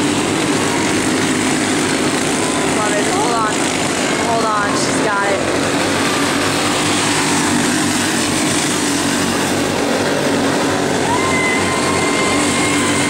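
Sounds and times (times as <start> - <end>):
kart engines droning: 0.0 - 13.0.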